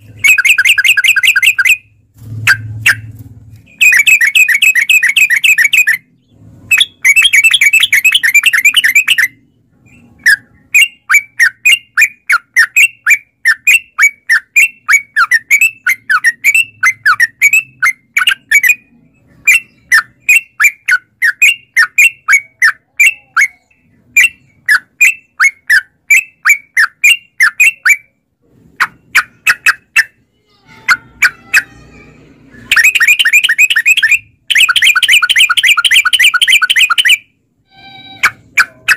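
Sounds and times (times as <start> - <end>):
bird singing: 0.0 - 28.2, 30.9 - 38.9.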